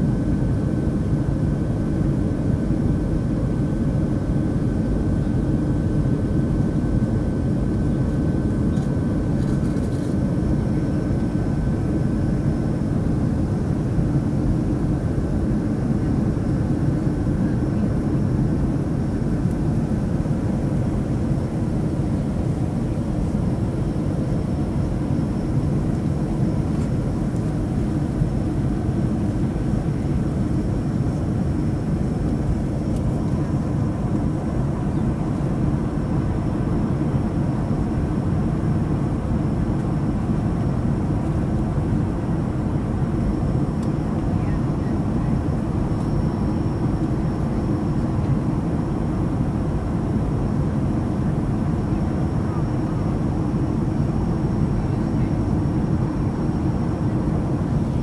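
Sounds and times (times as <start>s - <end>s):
airplane cabin rumble: 0.0s - 58.0s
faint high whine: 0.0s - 58.0s.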